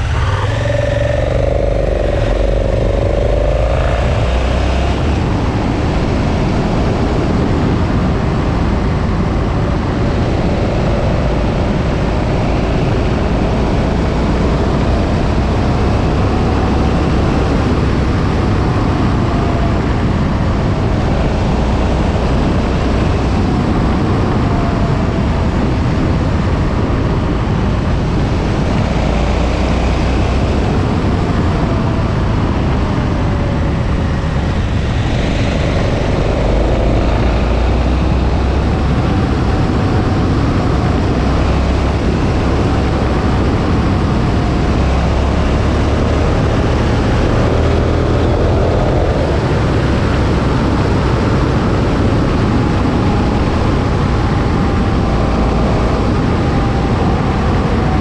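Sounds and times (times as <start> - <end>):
motorcycle engine revving: 0.0 - 58.0
wind rushing on microphone: 0.0 - 58.0.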